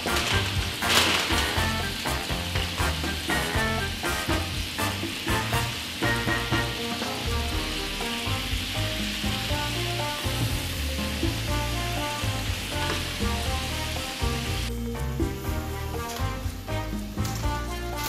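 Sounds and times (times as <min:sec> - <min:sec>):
background music with bass: 0:00.0 - 0:18.0
liquid boiling and sizzling: 0:00.0 - 0:18.0.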